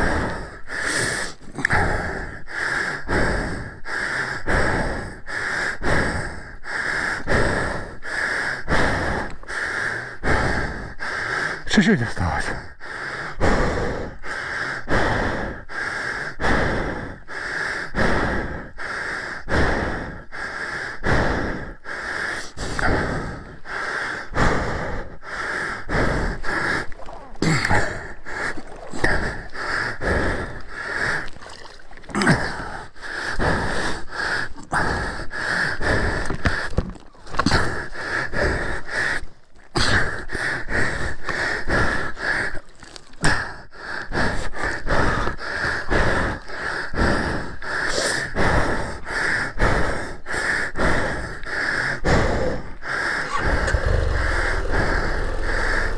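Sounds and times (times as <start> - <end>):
man panting hard: 0.0 - 55.9.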